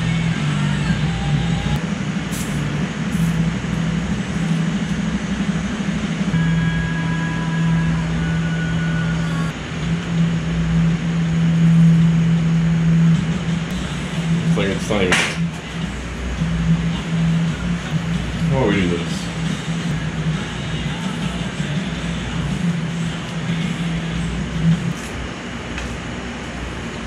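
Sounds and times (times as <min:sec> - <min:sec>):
droning background music: 0:00.0 - 0:27.0.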